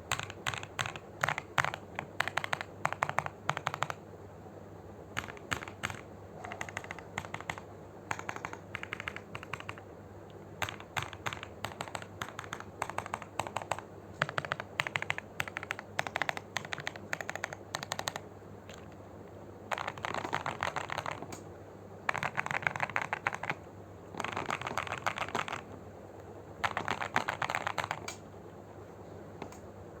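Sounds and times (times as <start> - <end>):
mechanical keyboard typing: 0.0 - 4.0, 5.2 - 9.9, 10.6 - 19.0, 19.7 - 21.4, 22.1 - 25.8, 26.6 - 28.2.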